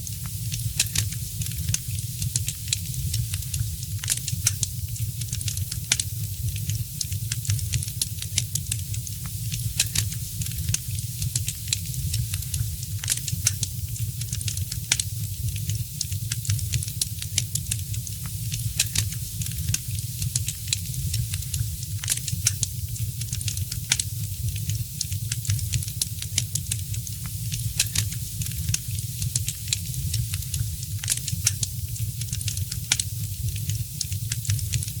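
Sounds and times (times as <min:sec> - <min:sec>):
wood fire crackling and popping: 0:00.3 - 0:35.0.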